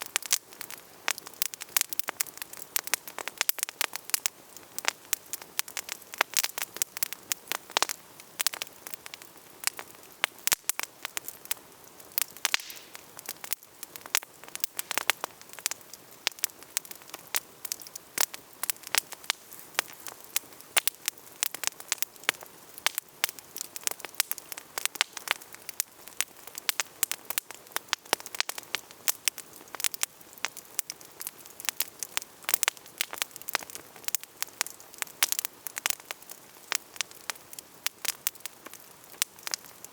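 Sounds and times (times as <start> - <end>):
campfire crackling and popping: 0.0 - 39.9
soft hiss of fire: 0.0 - 39.9.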